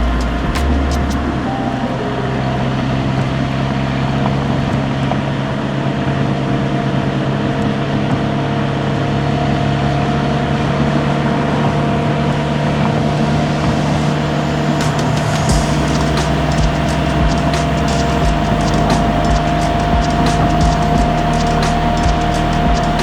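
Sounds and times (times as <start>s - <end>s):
car engine drone: 0.0s - 23.0s.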